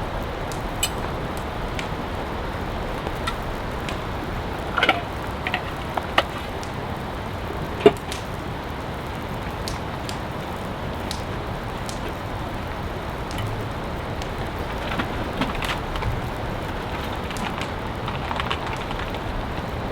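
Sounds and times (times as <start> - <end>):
heavy rain: 0.0 - 19.9.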